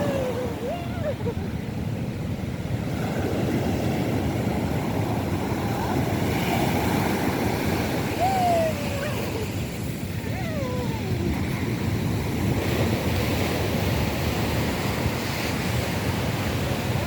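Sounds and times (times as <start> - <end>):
rough sea surf breaking: 0.0 - 17.0.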